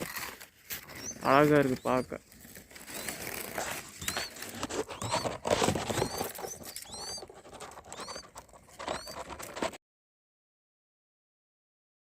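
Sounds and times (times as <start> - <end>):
baby birds cheeping: 0.0 - 9.8
rustling: 0.0 - 9.8.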